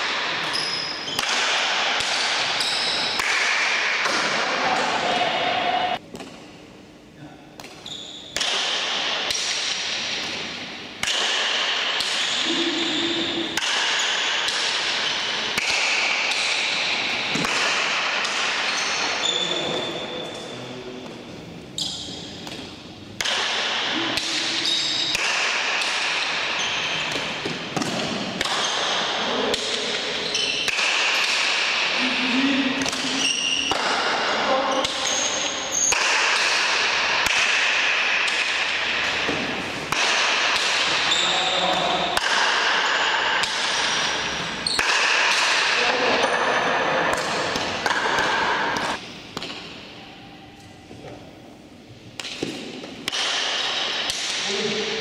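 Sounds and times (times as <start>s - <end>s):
ball hitting paddles and wall: 0.0s - 6.5s, 7.6s - 49.9s, 52.1s - 55.0s.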